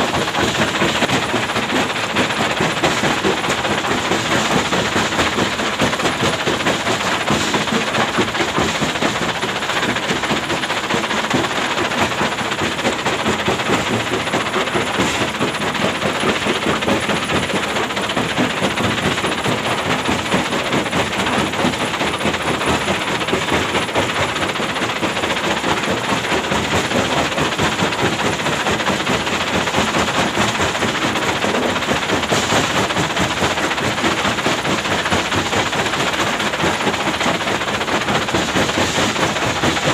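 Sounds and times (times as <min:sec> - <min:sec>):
excavator diesel engine running: 0:00.0 - 0:39.9
rapid rattling clatter: 0:00.0 - 0:39.9.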